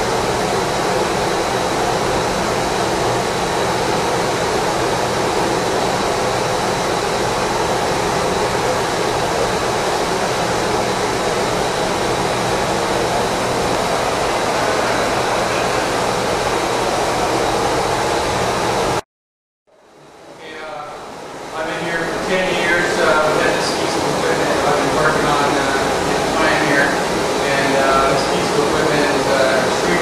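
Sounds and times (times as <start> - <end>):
electric mixer motor whirring: 0.5 - 19.0, 22.1 - 30.0.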